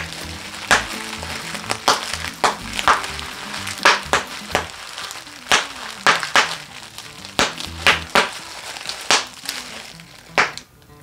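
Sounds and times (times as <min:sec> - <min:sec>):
bubble wrap popping: 0:00.0 - 0:11.0
plastic crinkling: 0:00.0 - 0:11.0.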